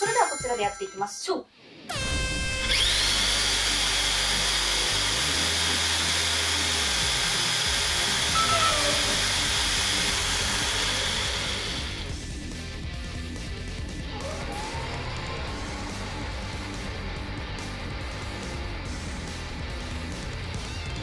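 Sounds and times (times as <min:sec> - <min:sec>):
electric motor whine: 0:01.9 - 0:12.2, 0:14.1 - 0:21.0.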